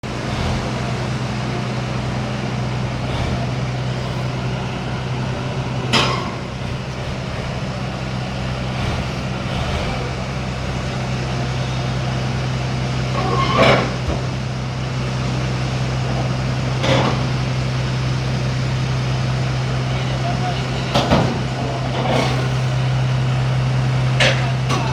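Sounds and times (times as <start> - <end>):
bulldozer diesel engine running: 0.0 - 24.9.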